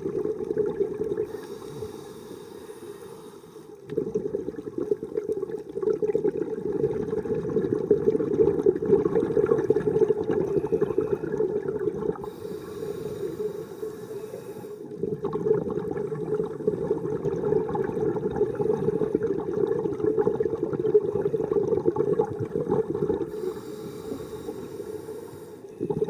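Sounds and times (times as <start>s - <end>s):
underwater bubbling: 0.0s - 26.0s.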